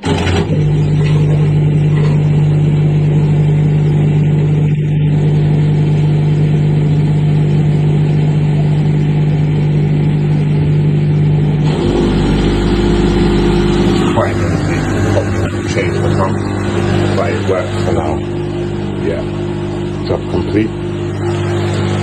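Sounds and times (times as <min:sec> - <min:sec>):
drain pump humming: 0:00.0 - 0:22.0.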